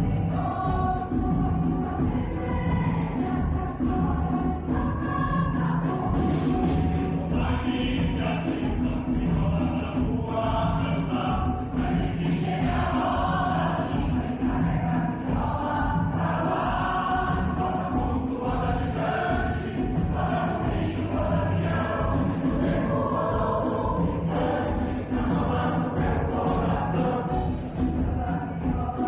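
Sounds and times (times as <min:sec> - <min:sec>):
low rhythmic accompaniment: 0:00.0 - 0:29.0
mixed choir singing: 0:00.0 - 0:29.0.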